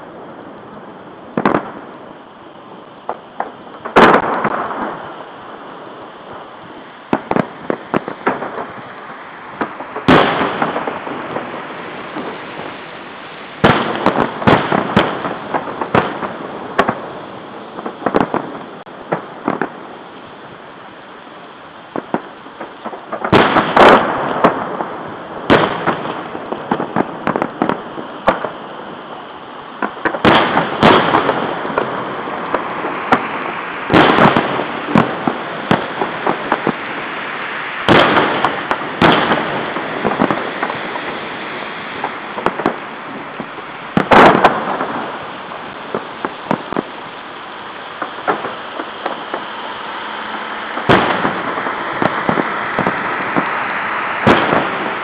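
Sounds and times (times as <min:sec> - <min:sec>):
firework crackles: 0:00.0 - 0:55.0
firework shells bursting: 0:01.3 - 0:02.0, 0:02.8 - 0:21.0, 0:21.8 - 0:55.0.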